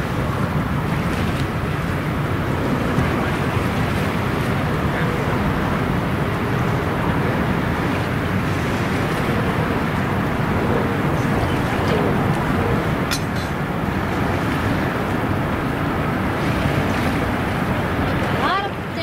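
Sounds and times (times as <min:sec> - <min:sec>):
river washing: 0:00.0 - 0:19.0
wind rumbling on microphone: 0:00.0 - 0:19.0.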